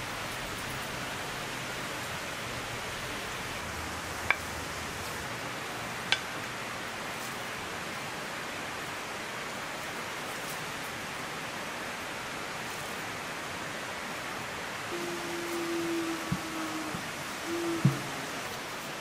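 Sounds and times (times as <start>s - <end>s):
rain hissing: 0.0s - 19.0s.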